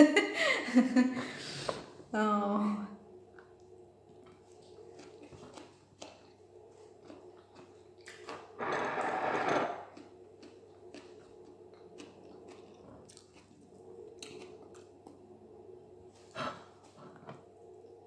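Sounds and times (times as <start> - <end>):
quiet chewing: 3.3 - 18.0.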